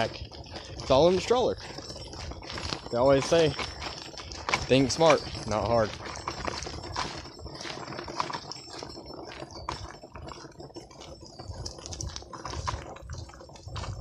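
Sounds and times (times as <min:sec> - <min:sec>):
footsteps on gravel: 0:00.0 - 0:14.0
stroller wheels crunching on gravel: 0:00.0 - 0:14.0.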